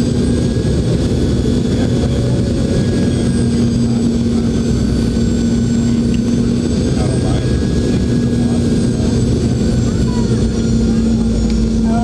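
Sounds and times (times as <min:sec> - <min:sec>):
airplane cabin engine roar: 0:00.0 - 0:12.0.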